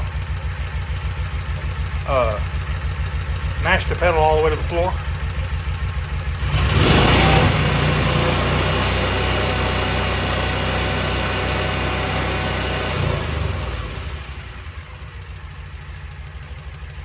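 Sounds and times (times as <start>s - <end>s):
utility vehicle engine revving: 0.0s - 15.3s.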